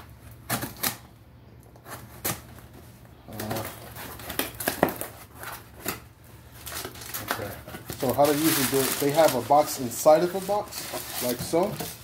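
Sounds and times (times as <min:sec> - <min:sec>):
rustling: 0:01.8 - 0:12.0.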